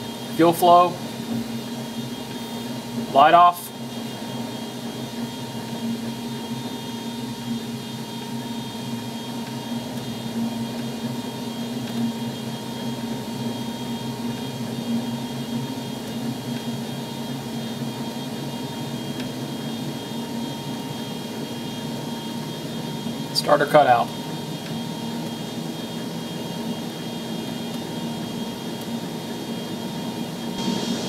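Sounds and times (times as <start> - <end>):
jet engine starting whir: 0.0 - 31.0.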